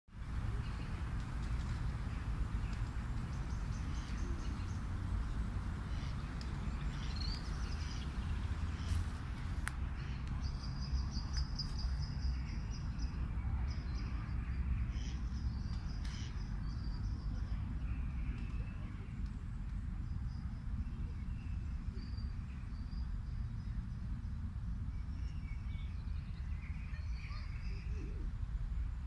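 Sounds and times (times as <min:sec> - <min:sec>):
songbirds chirping and trilling: 0:00.2 - 0:29.0.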